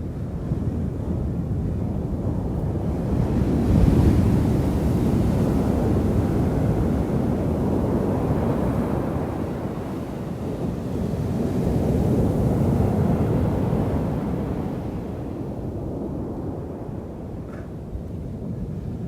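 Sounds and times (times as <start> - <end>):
waves breaking and washing in: 0.0 - 19.0
wind buffeting microphone: 0.0 - 19.0.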